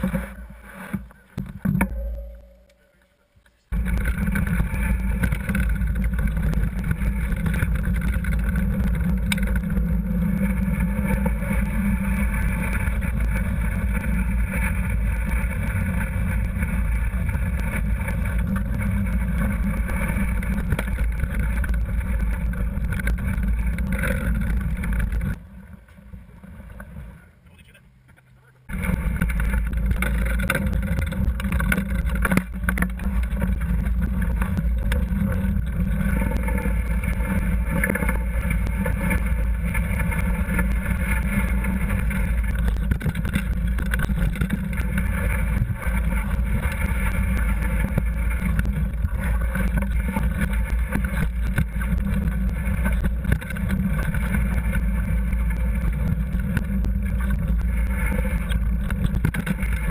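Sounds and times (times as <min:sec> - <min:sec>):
mountain bike rattling on trail: 0:00.0 - 0:03.0, 0:03.6 - 0:27.6, 0:28.7 - 0:59.9.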